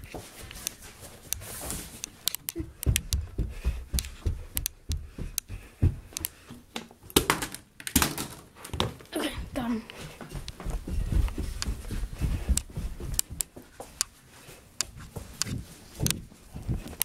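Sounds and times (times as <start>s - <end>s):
footsteps: 0.0s - 7.4s, 8.5s - 17.0s.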